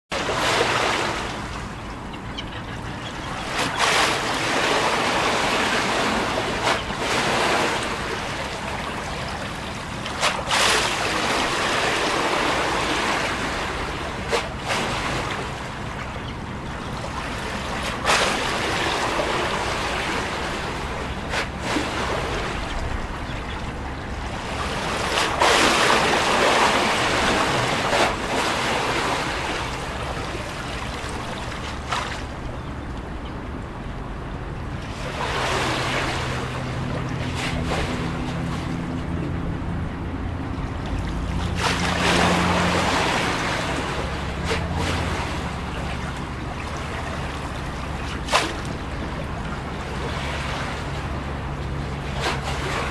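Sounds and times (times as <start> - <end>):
waves washing against seawall: 0.1 - 1.8, 3.2 - 32.5, 34.4 - 52.9.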